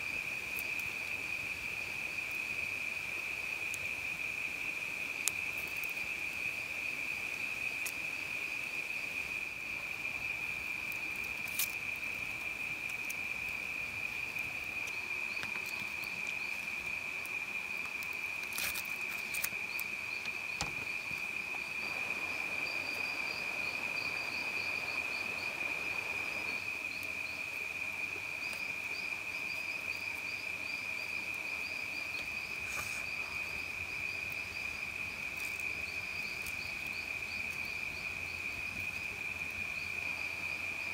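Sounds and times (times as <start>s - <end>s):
insect high steady drone: 0.0s - 40.9s
insect rapid chirping: 0.0s - 40.9s.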